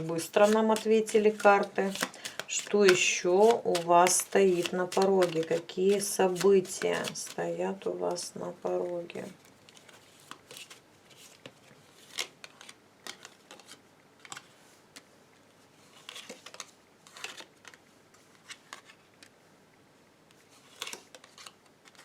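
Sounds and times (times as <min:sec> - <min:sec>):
cards shuffled by hand: 0:00.0 - 0:07.4, 0:09.7 - 0:15.0, 0:15.8 - 0:19.3, 0:20.5 - 0:22.0.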